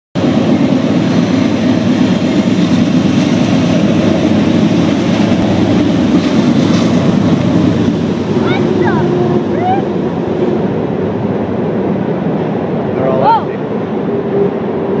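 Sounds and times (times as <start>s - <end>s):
diesel locomotive rumbling: 0.2s - 15.0s.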